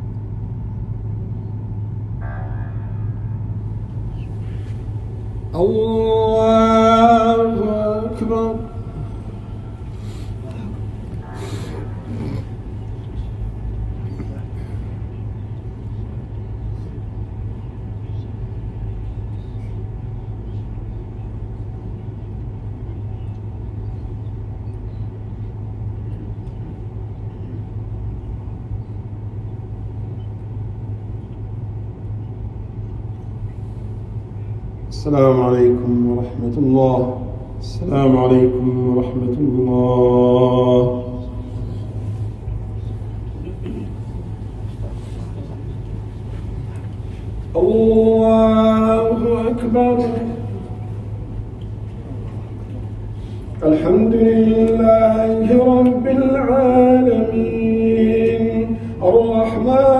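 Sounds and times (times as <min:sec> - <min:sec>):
room rumble: 0:00.0 - 0:59.9
steady low hum: 0:00.0 - 0:59.9.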